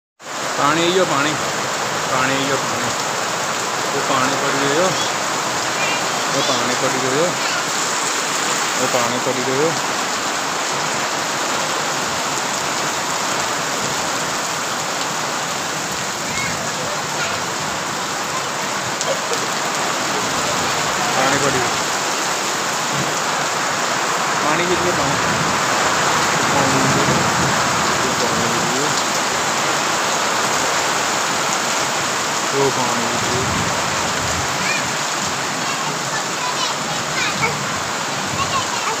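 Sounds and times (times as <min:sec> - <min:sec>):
rain falling on wet ground: 0:00.2 - 0:39.0.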